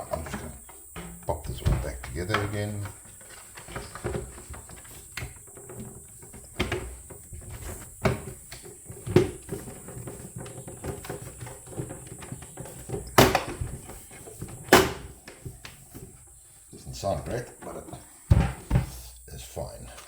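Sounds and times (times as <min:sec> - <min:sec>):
plastic parts knocking and clicking: 0:00.0 - 0:16.5, 0:17.1 - 0:19.4.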